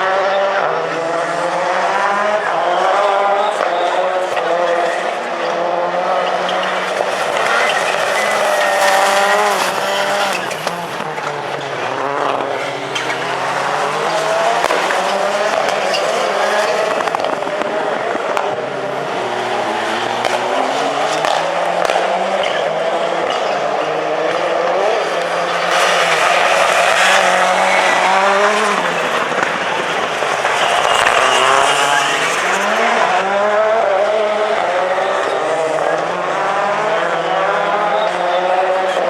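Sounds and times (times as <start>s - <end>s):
racing car engines revving: 0.0s - 39.0s.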